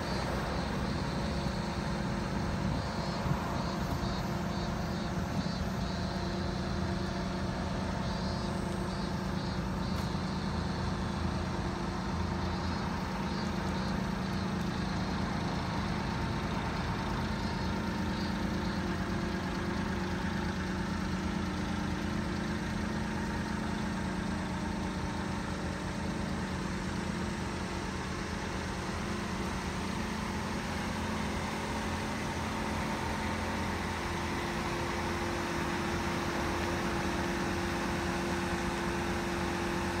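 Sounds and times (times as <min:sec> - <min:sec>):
small truck engine idling: 0:00.0 - 0:40.0.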